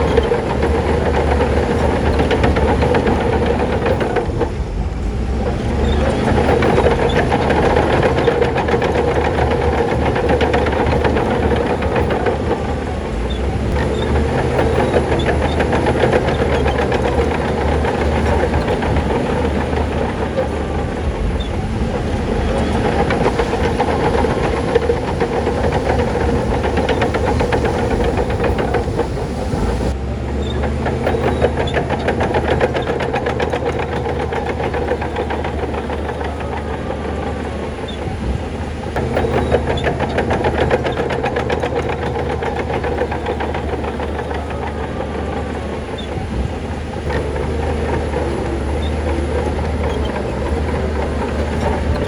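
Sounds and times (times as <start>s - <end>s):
diesel engine running: 0.0s - 52.0s
steel tracks clattering: 0.0s - 52.0s.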